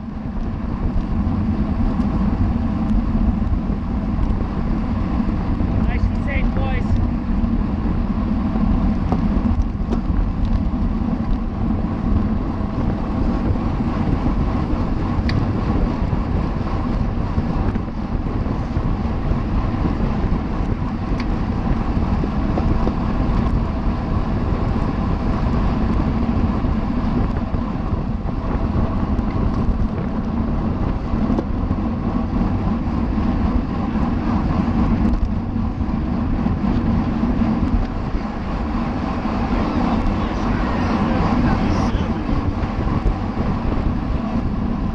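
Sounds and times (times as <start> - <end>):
wind rushing over microphone: 0.0 - 44.9.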